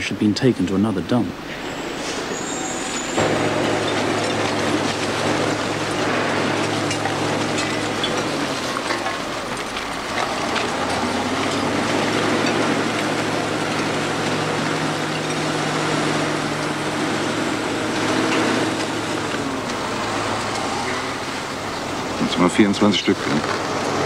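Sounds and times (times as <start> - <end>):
heavy vehicle engine running: 1.3 - 24.0.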